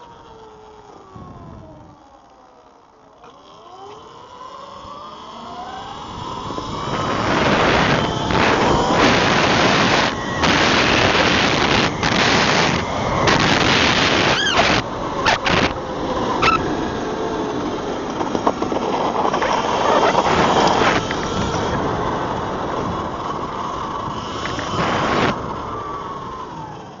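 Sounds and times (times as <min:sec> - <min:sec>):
electric motor whine: 0:00.0 - 0:27.0
wind noise on microphone: 0:01.1 - 0:02.0, 0:05.7 - 0:27.0.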